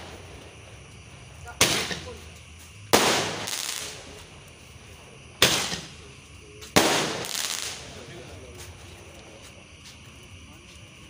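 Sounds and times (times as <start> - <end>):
fireworks bursting with sharp bangs: 0.0 - 9.6.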